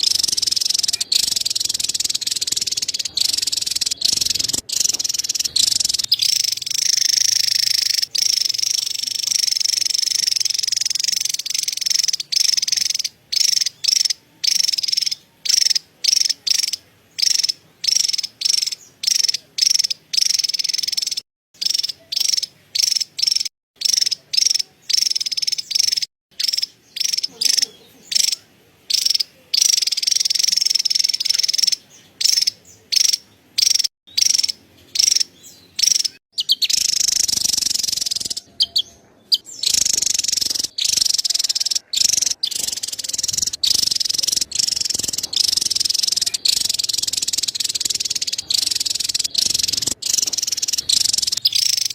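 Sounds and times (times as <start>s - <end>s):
bird's high-pitched chattering trill: 0.0s - 51.9s.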